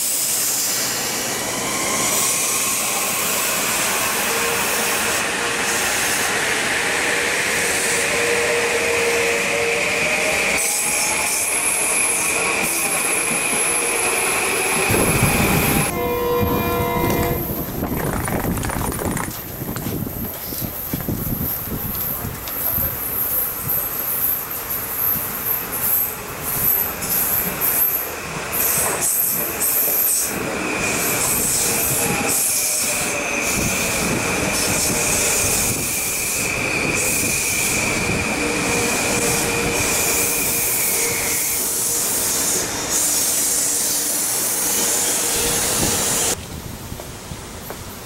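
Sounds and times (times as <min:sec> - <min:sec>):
high-pitched brake squeal: 0:00.0 - 0:06.3, 0:07.2 - 0:17.6, 0:22.6 - 0:46.4
train slowing to a stop: 0:00.0 - 0:18.5, 0:19.3 - 0:48.0.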